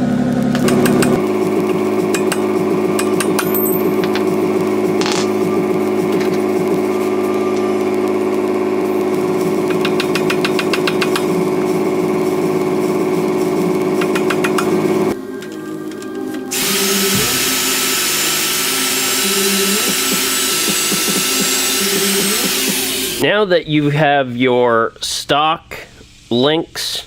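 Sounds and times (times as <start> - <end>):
power tool running: 0.2 - 15.2, 16.5 - 23.2
hissing tool sound: 0.5 - 15.2, 16.5 - 23.2, 25.7 - 26.6.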